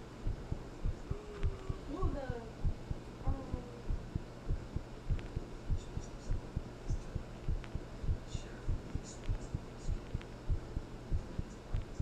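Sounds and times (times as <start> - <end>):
heartbeat thumps: 0.0 - 12.0
low hum: 0.0 - 12.0.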